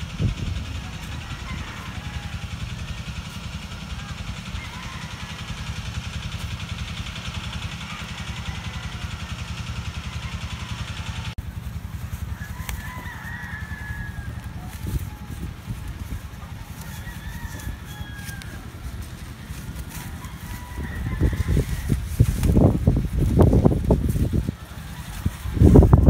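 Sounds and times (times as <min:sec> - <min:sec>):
chickens calling: 0:00.0 - 0:26.0
small engine running: 0:00.0 - 0:26.0.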